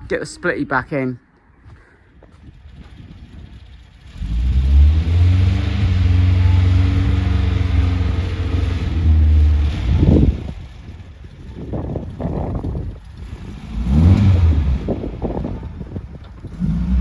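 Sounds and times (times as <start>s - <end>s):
engine starting and running: 2.2s - 17.0s.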